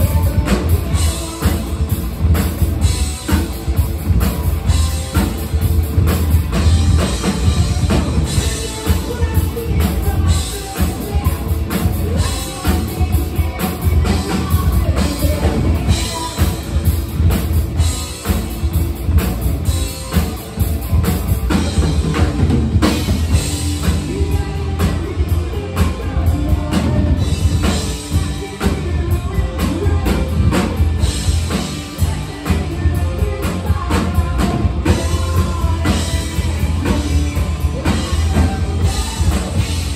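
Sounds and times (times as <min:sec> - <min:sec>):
person singing: 0:00.0 - 0:03.6, 0:06.6 - 0:17.5, 0:21.5 - 0:39.9
bass guitar: 0:00.0 - 0:39.9
drum kit beat: 0:00.0 - 0:39.9
electric guitar: 0:00.0 - 0:39.9.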